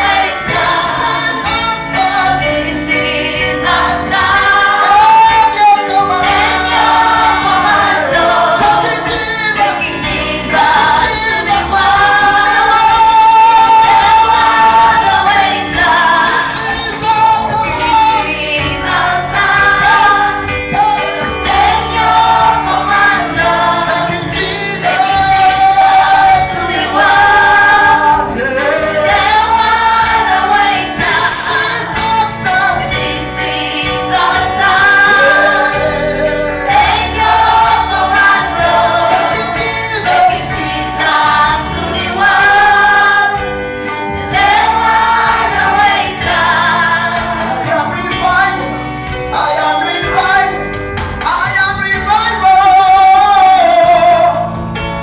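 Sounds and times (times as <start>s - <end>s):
choir singing gospel song: 0.0s - 55.0s.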